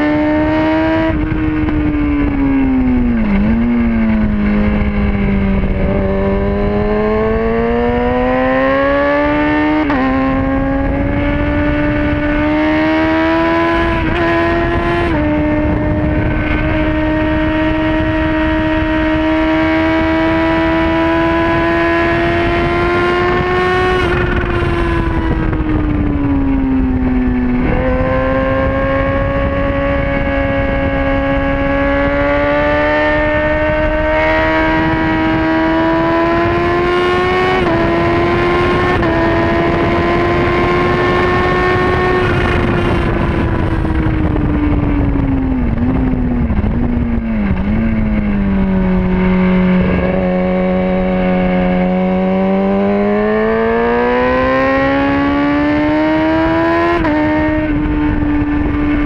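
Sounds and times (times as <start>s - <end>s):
motorcycle engine at high revs: 0.0s - 59.0s
wind rush on microphone: 0.0s - 59.0s.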